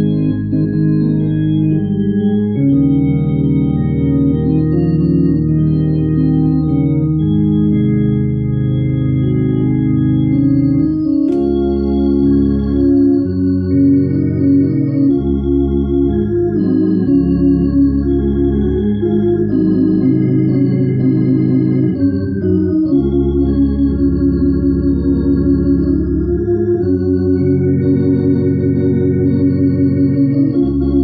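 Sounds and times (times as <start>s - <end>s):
organ playing a hymn: 0.0s - 31.0s.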